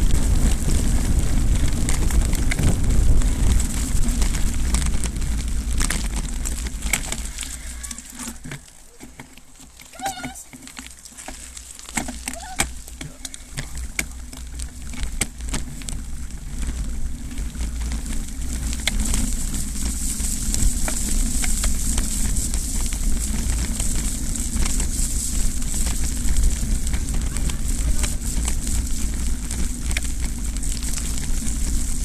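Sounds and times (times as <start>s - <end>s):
wind buffeting microphone: 0.0s - 8.2s, 12.2s - 32.0s
bicycle rattles and clicks: 0.0s - 32.0s
tyres crunching over gravel: 0.0s - 32.0s.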